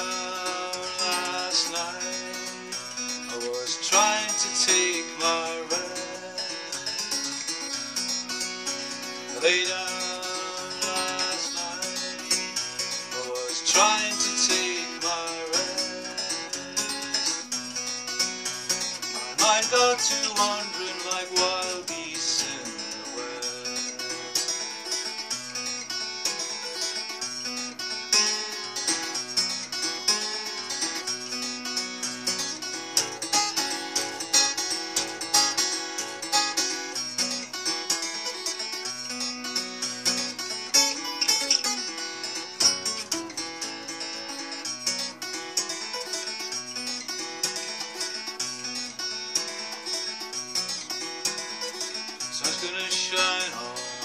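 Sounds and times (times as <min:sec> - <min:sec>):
fingerpicked acoustic guitar: 0:00.0 - 0:54.0.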